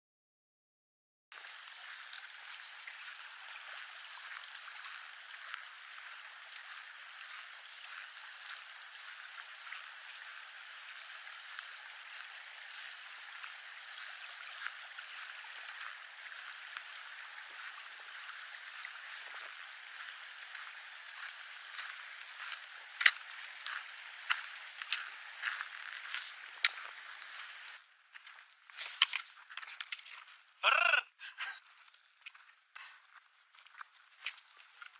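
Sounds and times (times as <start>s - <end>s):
stream water rushing: 1.3s - 31.5s.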